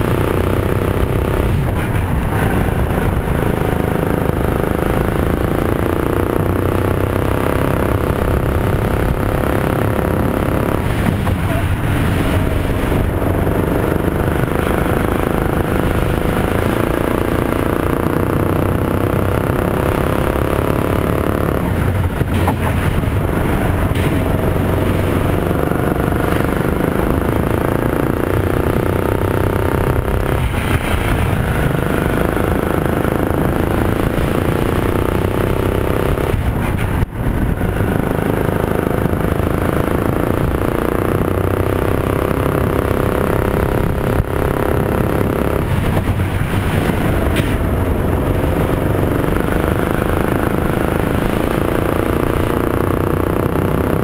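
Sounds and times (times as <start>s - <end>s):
kart engine running hard: 0.0s - 54.0s.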